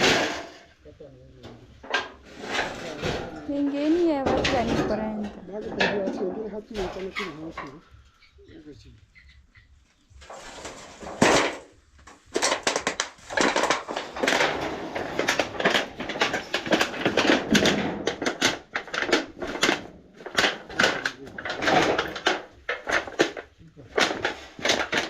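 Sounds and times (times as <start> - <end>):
scrapes and knocks: 0.0 - 25.0.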